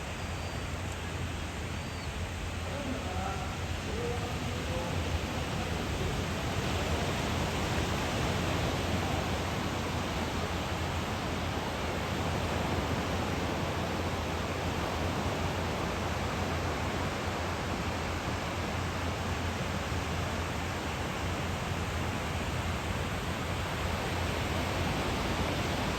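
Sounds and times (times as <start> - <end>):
wind: 0.0 - 25.9
surf rushing: 1.2 - 25.9.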